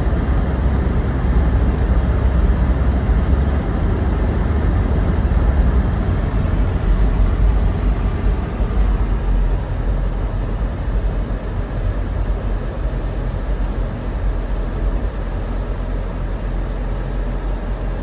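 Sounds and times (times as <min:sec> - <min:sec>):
car driving on snowy road: 0:00.0 - 0:18.0.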